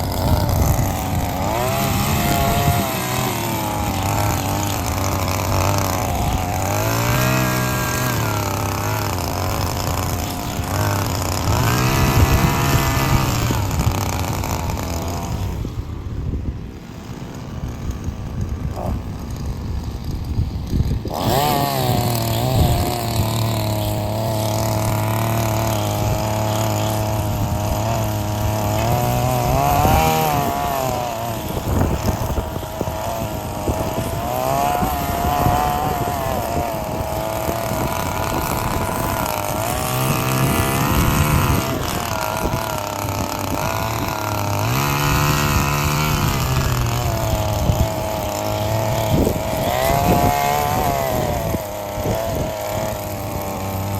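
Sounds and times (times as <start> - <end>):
mower engine revving: 0.0 - 53.9.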